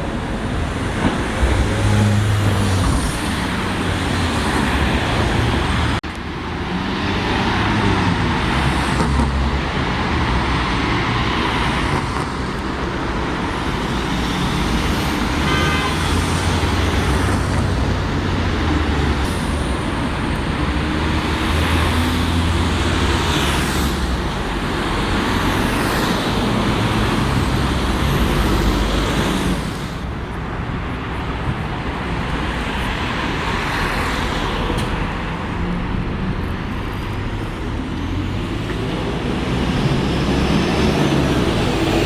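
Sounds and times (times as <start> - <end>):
heavy vehicle engines humming: 0.0 - 42.0.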